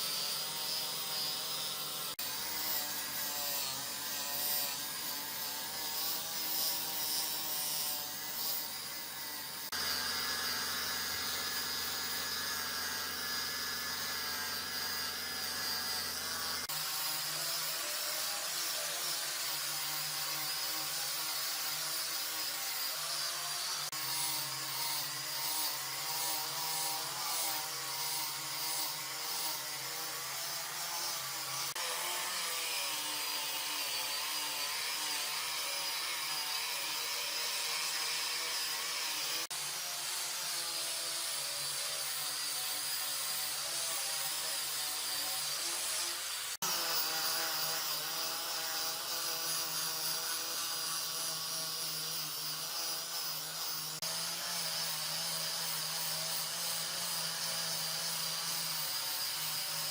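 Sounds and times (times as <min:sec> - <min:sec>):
power tool working wood: 0:00.0 - 0:59.9.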